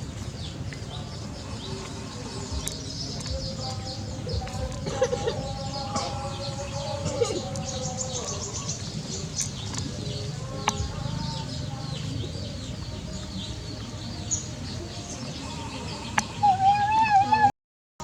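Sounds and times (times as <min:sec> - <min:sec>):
birds chirping and calling: 0:00.0 - 0:17.5.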